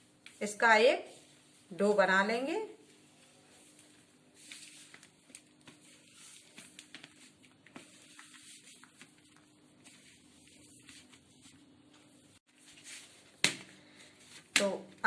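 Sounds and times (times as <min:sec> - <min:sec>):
hands kneading dough: 0:02.9 - 0:15.0.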